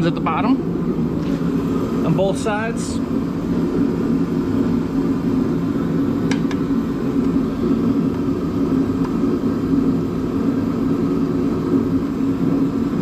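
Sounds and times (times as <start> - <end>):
steady machine drone: 0.0 - 13.0.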